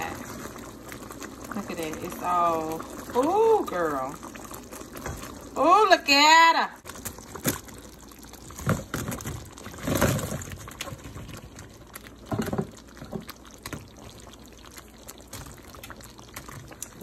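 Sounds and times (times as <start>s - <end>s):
sauce bubbles popping: 0.0s - 17.0s.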